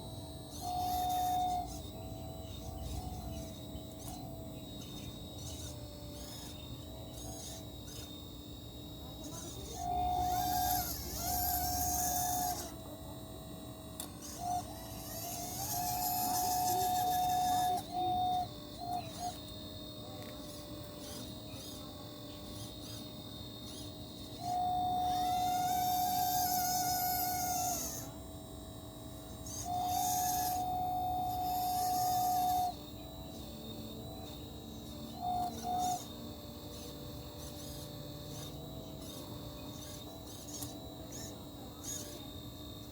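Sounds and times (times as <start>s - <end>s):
electric motors whining: 0.0s - 42.9s
faint steady hum: 0.0s - 42.9s.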